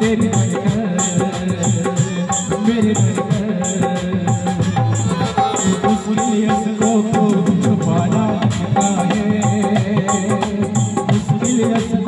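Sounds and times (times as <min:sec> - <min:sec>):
dholak drum beat: 0:00.0 - 0:12.0
keyboard playing: 0:00.0 - 0:12.0.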